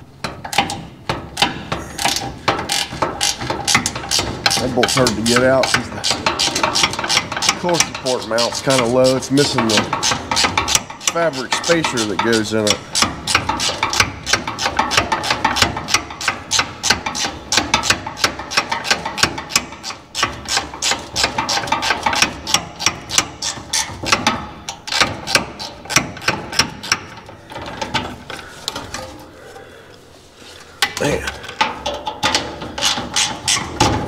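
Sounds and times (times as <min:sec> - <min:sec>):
hand ratchet clicking: 0:01.4 - 0:29.1, 0:30.8 - 0:34.0.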